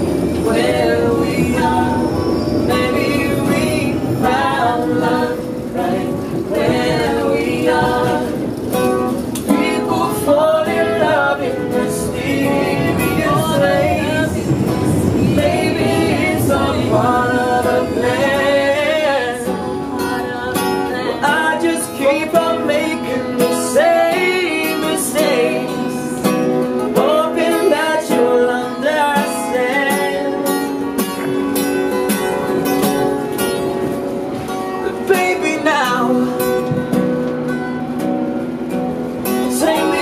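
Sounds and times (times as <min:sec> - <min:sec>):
voices singing: 0:00.0 - 0:37.0, 0:38.6 - 0:40.0
acoustic guitar strummed: 0:00.0 - 0:40.0
low train rumble: 0:00.0 - 0:40.0.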